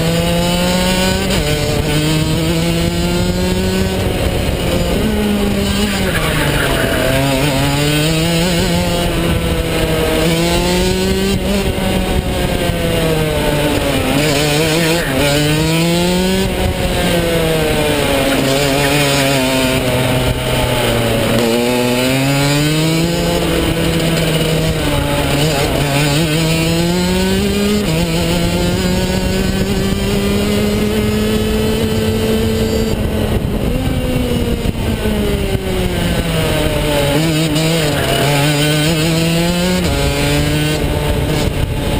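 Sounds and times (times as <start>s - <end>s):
kart engine revving: 0.0s - 41.9s.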